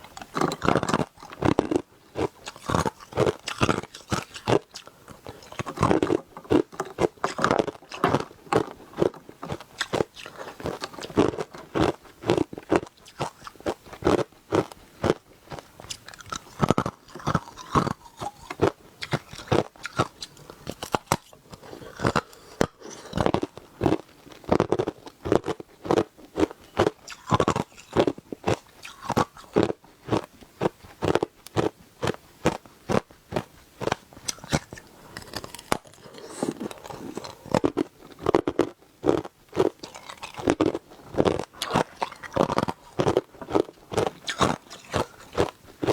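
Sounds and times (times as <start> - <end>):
ice being crunched and chewed: 0.0 - 45.9.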